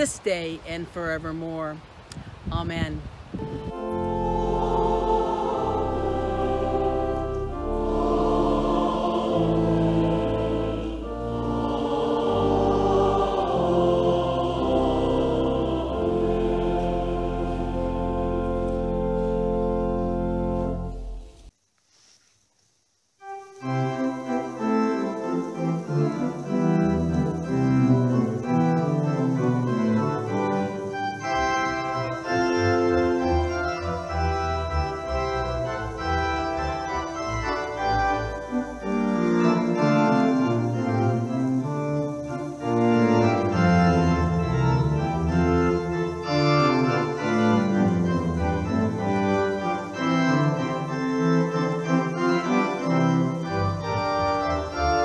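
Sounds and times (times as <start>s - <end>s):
church organ playing chords: 3.4s - 21.5s, 23.2s - 55.0s.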